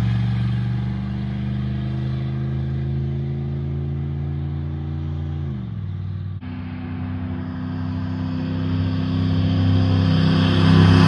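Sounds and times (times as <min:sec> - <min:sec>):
truck engine exhaust drone: 0:00.0 - 0:11.0.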